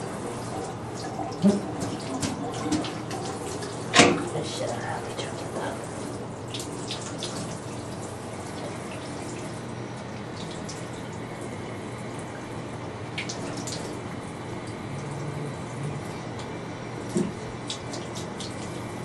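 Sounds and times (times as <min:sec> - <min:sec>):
water running into a bathtub: 0:00.0 - 0:19.0
small water splashes: 0:00.4 - 0:16.4, 0:17.0 - 0:19.0.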